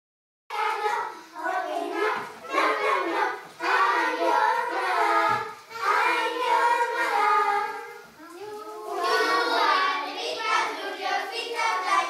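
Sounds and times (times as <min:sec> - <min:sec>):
children singing together: 0:00.5 - 0:12.0.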